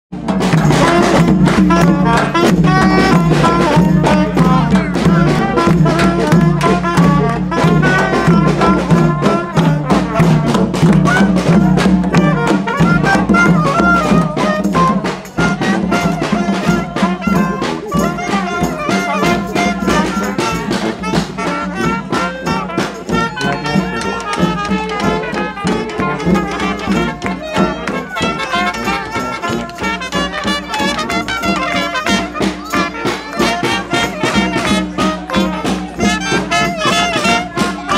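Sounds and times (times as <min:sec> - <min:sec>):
brass band playing jazzy tune: 0:00.1 - 0:37.9
steady drum beat: 0:00.1 - 0:37.9.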